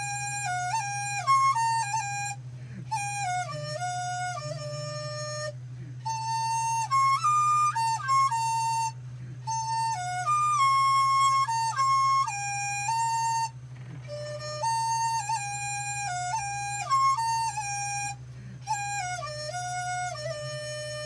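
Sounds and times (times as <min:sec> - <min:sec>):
bamboo flute melody: 0:00.0 - 0:21.0
low hum: 0:00.0 - 0:21.0.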